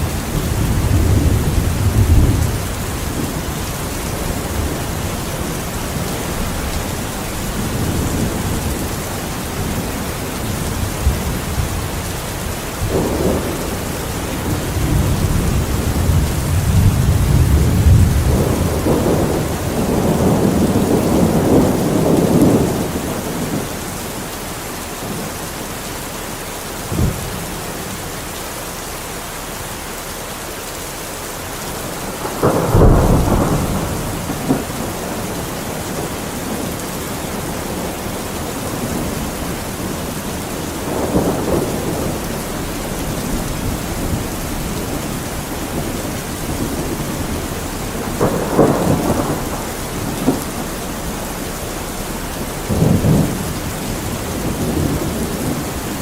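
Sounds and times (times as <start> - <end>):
thunder rumbling and clapping: 0.0 - 23.8, 32.0 - 56.0
steady rain: 0.0 - 56.0.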